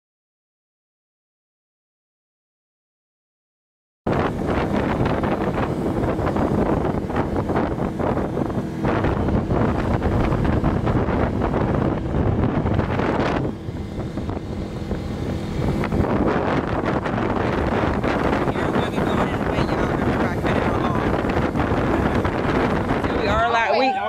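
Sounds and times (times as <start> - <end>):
boat motor running: 4.1 - 24.0
wind buffeting microphone: 4.1 - 24.0.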